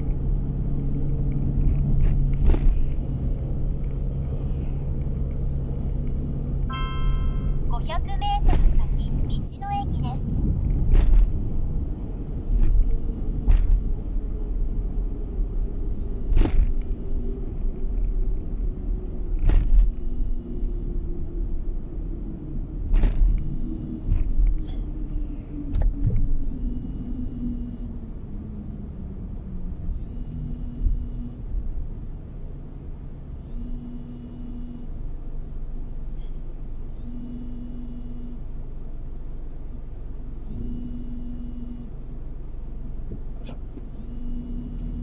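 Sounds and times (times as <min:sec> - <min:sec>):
car tyres and engine rumble: 0:00.0 - 0:45.0.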